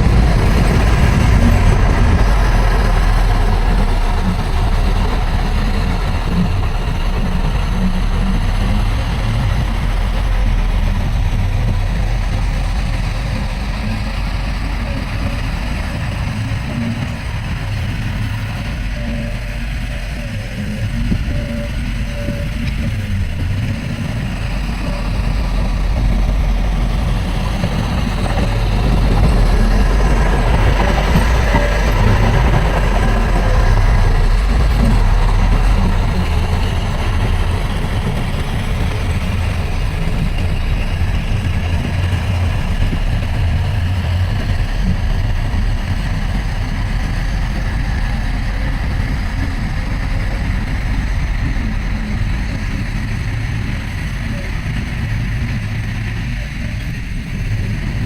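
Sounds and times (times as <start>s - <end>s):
diesel engine deep rumble: 0.0s - 58.0s.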